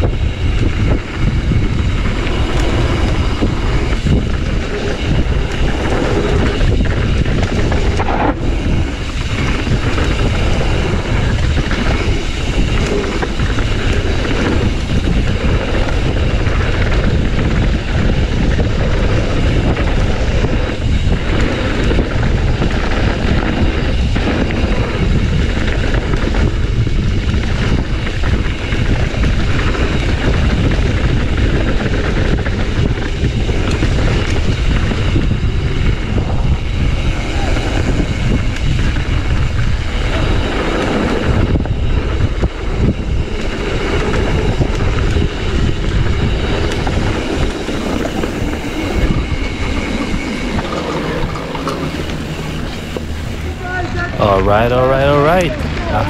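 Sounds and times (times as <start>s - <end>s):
bike rattling over rough ground: 0.0s - 56.0s
wind rushing over microphone: 0.0s - 56.0s.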